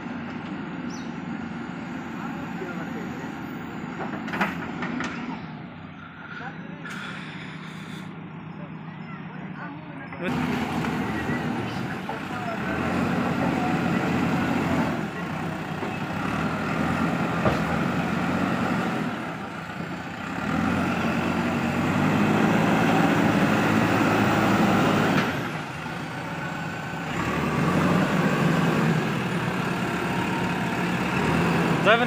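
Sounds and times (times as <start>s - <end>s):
diesel engine under load: 0.0s - 32.0s.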